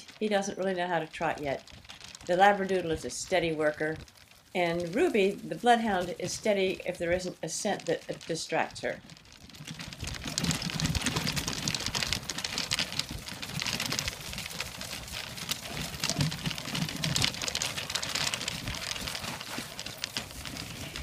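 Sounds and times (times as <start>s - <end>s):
dogs trotting: 0.0s - 21.0s
wagon wheels crunching rattle: 0.0s - 21.0s.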